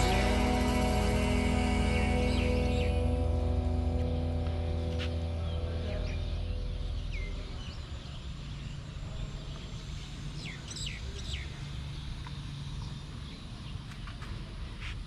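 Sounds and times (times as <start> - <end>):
steady low rumble: 0.0 - 15.0
bird chirps: 1.9 - 14.2.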